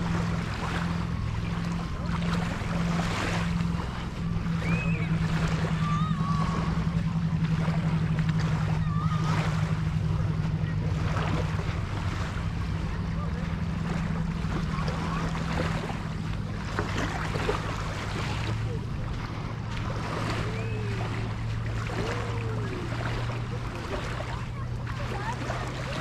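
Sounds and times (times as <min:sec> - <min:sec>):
low pulsing drone: 0:00.0 - 0:26.0.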